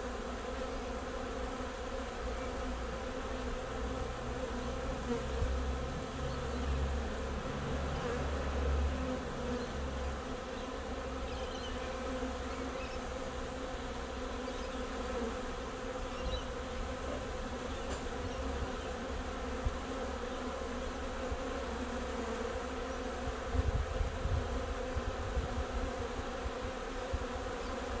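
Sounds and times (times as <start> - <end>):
bee swarm buzzing: 0.0 - 28.0.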